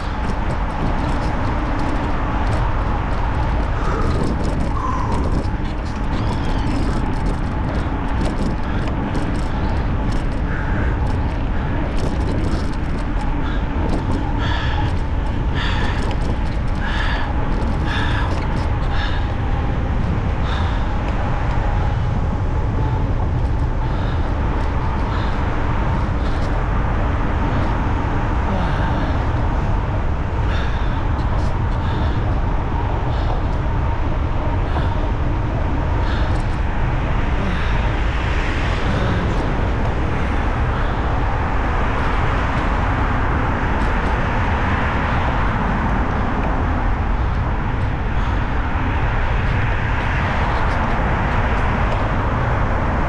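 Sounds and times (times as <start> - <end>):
bicycle tyre noise: 0.0 - 53.0
wind buffeting microphone: 0.0 - 53.0.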